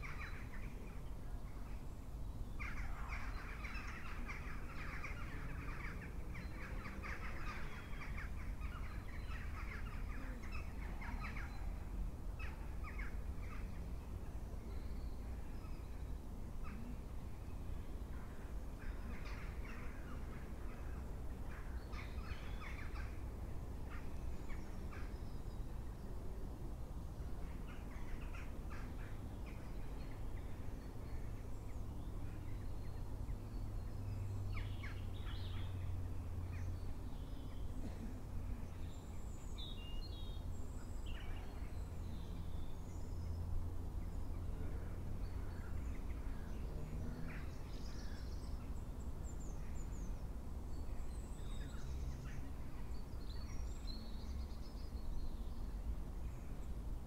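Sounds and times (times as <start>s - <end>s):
wild birds chirping: 0.0s - 57.0s.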